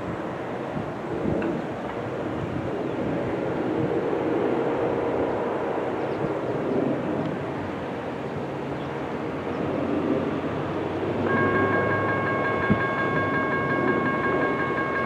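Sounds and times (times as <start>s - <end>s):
diesel locomotive engine drone: 0.0s - 15.0s
wheels rumbling on rails: 0.0s - 15.0s.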